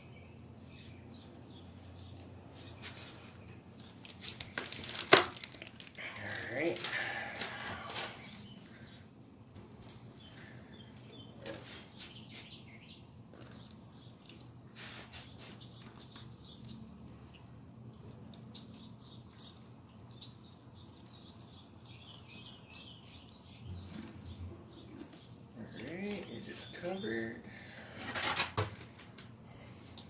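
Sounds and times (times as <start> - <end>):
birds chirping: 0.0 - 28.1.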